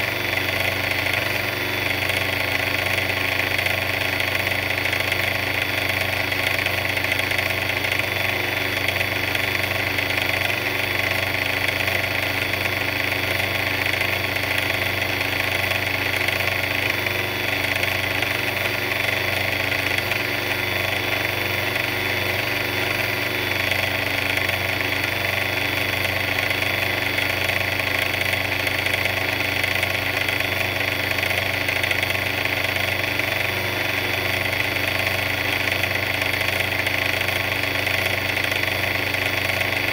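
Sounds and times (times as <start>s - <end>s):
mixer motor running: 0.0s - 39.9s.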